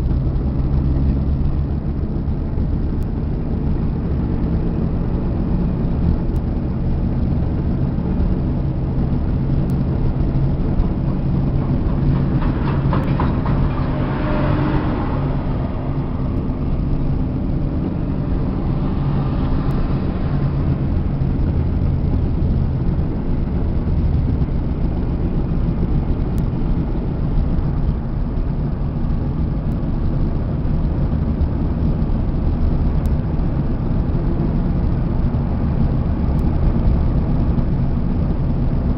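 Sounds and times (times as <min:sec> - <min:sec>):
motorcycle engines running: 0:00.0 - 0:38.9.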